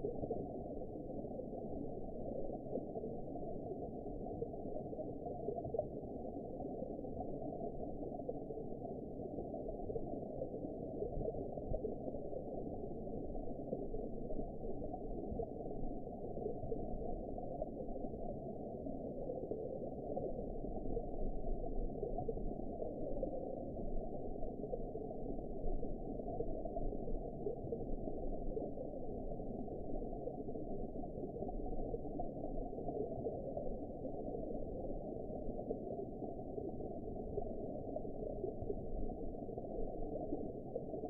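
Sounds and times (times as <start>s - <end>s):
muffled underwater rush: 0.0s - 41.0s.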